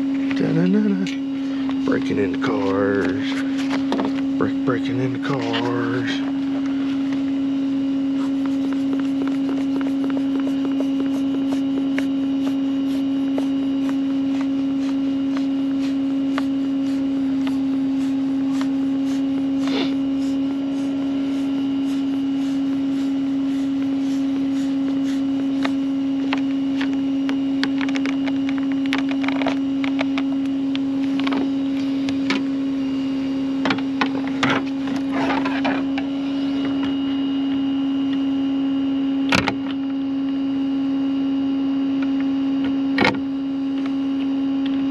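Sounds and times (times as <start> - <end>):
vehicle engine hum: 0.0 - 40.4.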